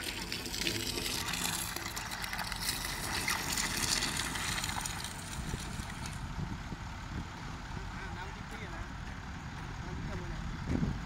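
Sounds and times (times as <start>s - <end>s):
diesel engine running: 0.2s - 11.0s.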